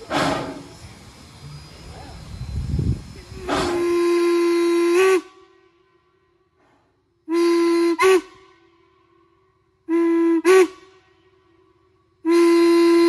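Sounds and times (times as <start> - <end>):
steam locomotive whistle: 1.4 - 6.2, 7.2 - 13.0.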